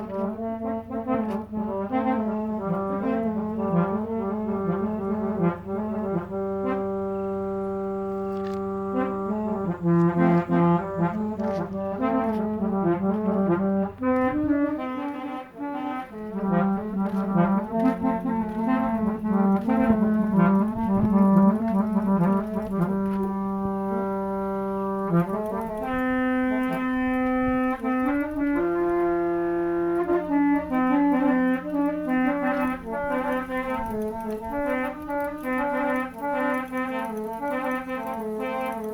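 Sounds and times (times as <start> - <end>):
musical vehicle horns tune: 0.0 - 38.9.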